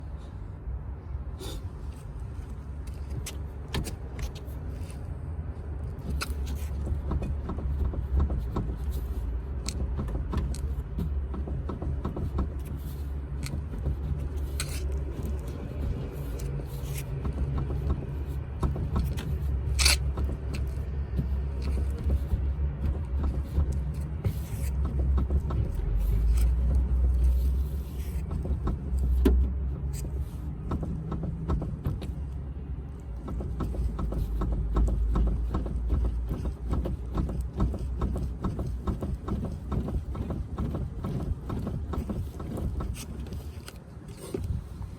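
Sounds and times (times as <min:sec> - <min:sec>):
low steady rumble: 0:00.0 - 0:44.9
car suspension clicking and knocking: 0:01.6 - 0:44.9.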